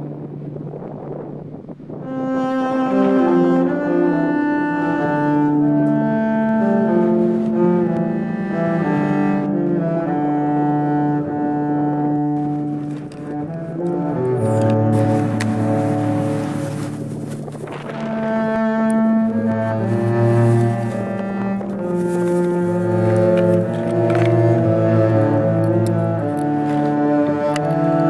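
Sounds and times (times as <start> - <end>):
slow bowed strings music: 0.0 - 28.0.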